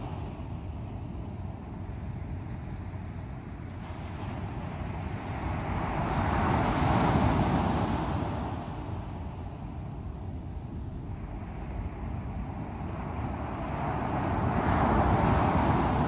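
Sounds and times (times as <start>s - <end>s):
surf rumble: 0.0s - 16.0s.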